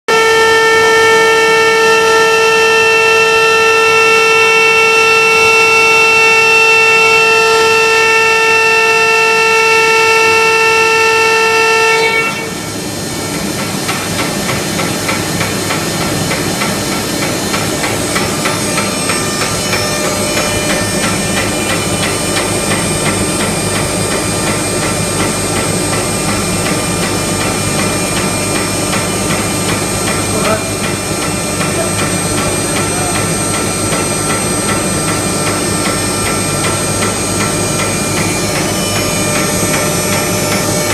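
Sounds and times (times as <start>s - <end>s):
pump whining: 0.1s - 40.9s.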